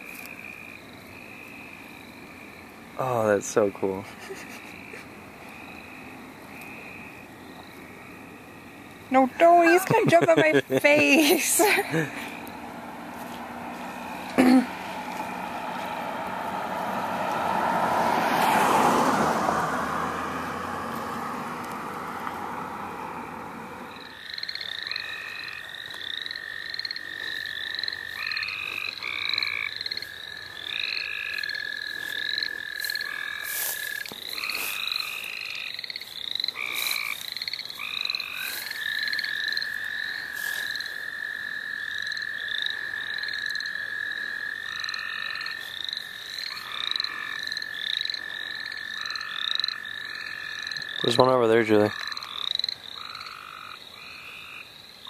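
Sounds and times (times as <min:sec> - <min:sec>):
frog chorus trilling and peeping: 0:00.0 - 0:55.0.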